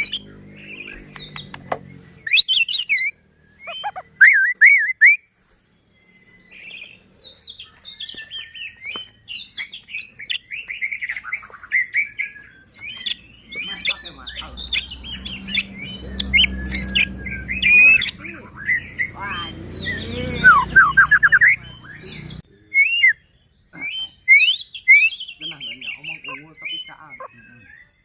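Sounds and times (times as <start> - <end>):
songbird singing whistles and trills: 0.0 - 28.0.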